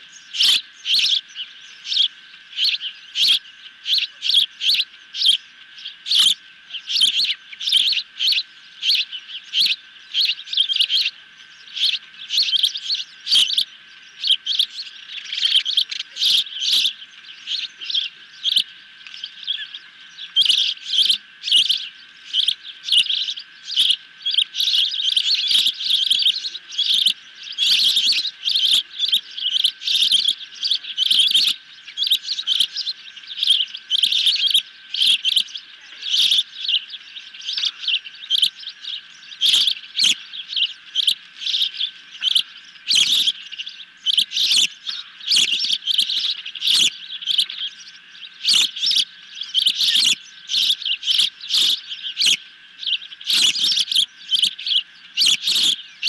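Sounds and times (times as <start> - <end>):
ospreys chirping: 0.0 - 56.0.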